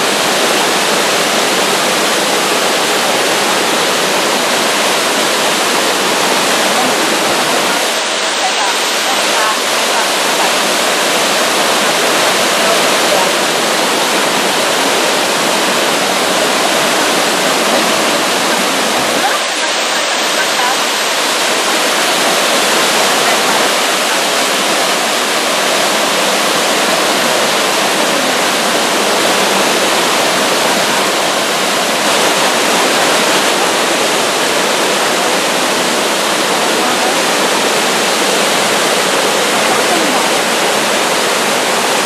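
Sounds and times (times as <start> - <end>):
waterfall rushing over rocks: 0.0 - 42.0.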